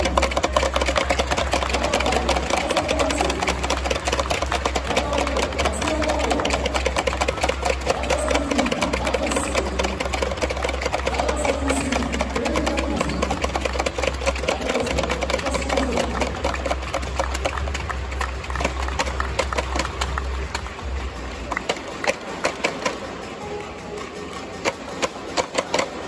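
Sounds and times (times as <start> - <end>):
crowd clapping: 0.0 - 26.0.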